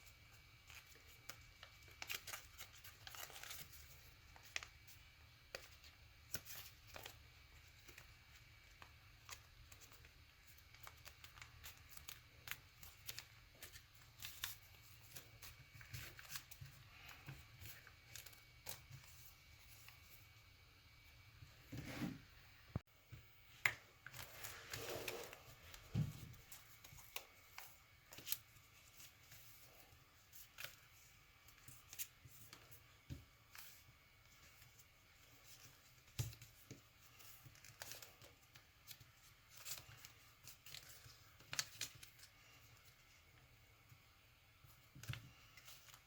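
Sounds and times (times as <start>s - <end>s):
paper rustling and crinkling: 0.6s - 20.2s, 24.0s - 43.2s.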